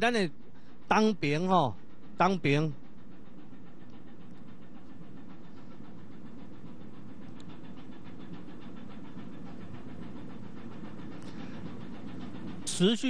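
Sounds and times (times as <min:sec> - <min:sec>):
ship engine hum: 0:00.0 - 0:13.0.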